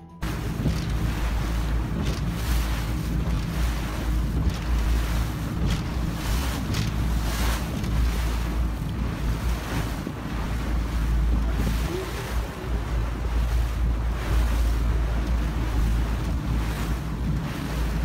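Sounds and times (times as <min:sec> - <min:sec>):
waves washing and splashing: 0:00.0 - 0:18.0
wind buffeting microphone: 0:00.2 - 0:18.0.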